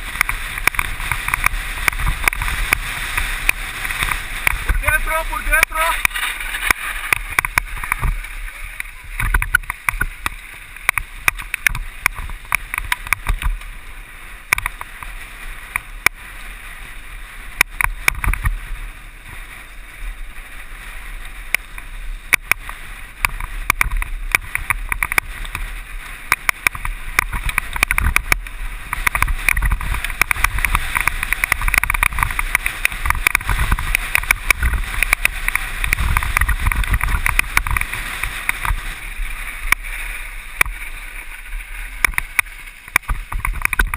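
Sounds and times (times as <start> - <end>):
tyres hissing on loose ground: 0.0 - 43.8
bike rattling and clicking: 0.0 - 43.9
wind rumble on microphone: 0.0 - 43.9.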